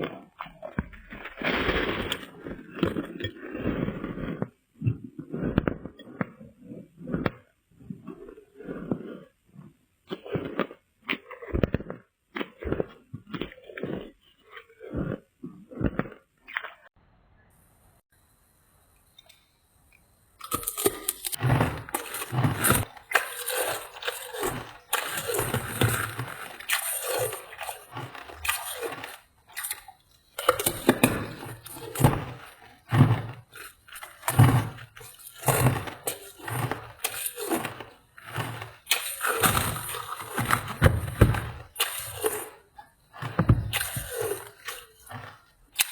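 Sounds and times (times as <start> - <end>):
ice being chewed: 0.0 - 16.9, 20.4 - 45.9.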